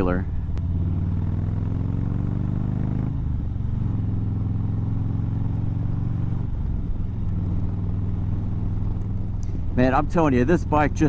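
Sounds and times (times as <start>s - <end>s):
motorcycle engine shifting gears: 0.0s - 11.0s.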